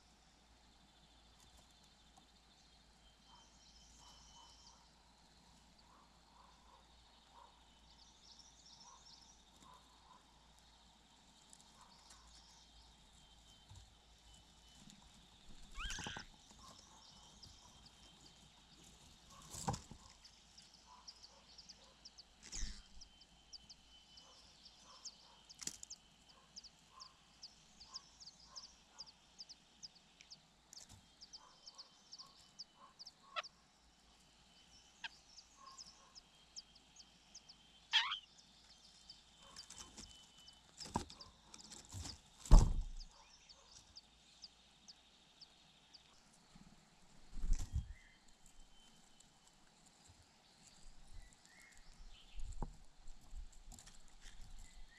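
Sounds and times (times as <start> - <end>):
faint high chirping: 0.8 - 46.8.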